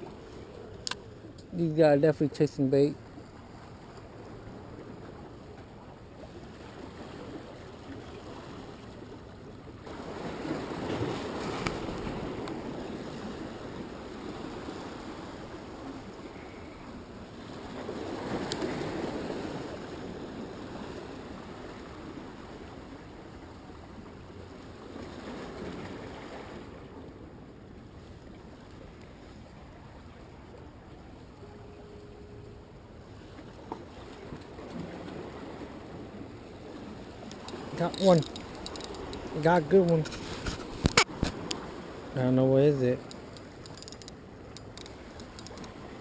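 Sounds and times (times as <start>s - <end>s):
ocean surf washing on shore: 0.0s - 46.0s.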